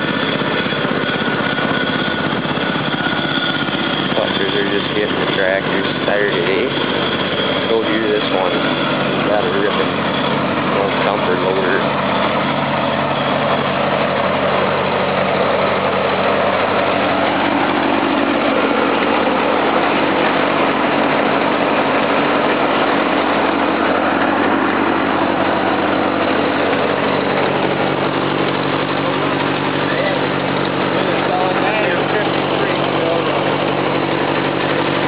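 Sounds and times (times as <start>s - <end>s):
tractor engine idling: 0.0s - 35.0s.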